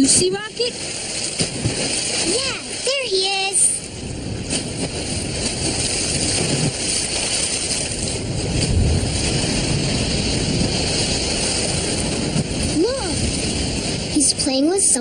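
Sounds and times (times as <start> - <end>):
rushing surf and spray: 0.0 - 15.0.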